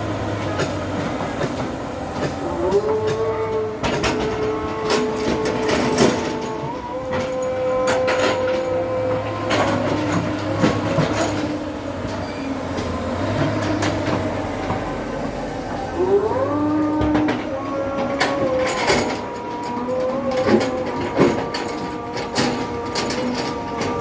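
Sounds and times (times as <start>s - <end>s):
backhoe engine and hydraulics whining: 0.0s - 24.0s.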